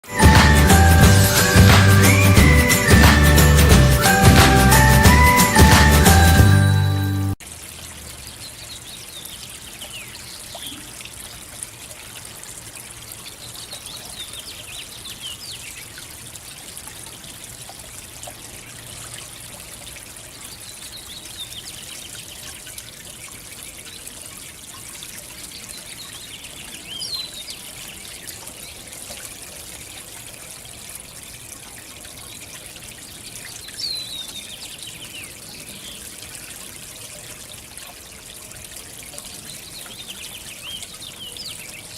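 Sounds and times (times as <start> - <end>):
fountain trickling: 0.0 - 41.9.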